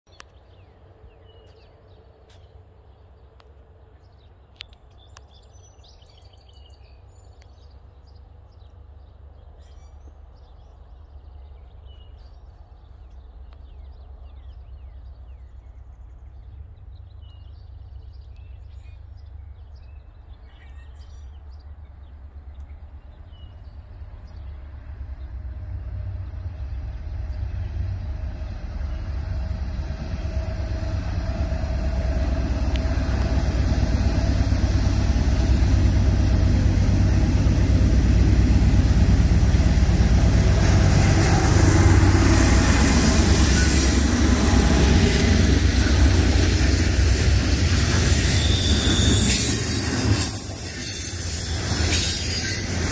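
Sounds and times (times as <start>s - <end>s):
birds chirping: 0.2s - 52.9s
train locomotive rumble: 7.7s - 52.9s.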